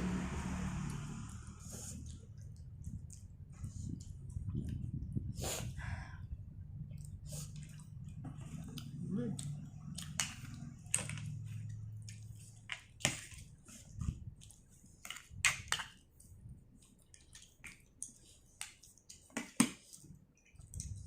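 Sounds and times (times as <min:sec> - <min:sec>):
chewing and crunching: 0:01.6 - 0:05.4, 0:06.8 - 0:21.0.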